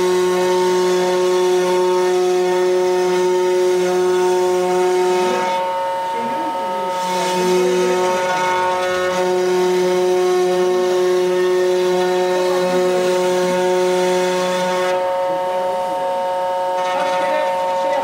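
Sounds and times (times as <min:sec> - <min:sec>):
rasping wood cutting: 0:00.0 - 0:18.0
router spindle whine: 0:00.0 - 0:18.0.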